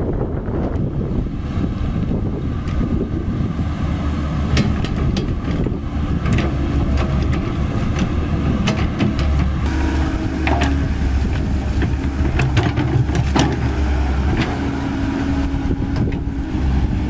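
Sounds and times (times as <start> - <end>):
excavator diesel engine running: 0.1 - 17.0.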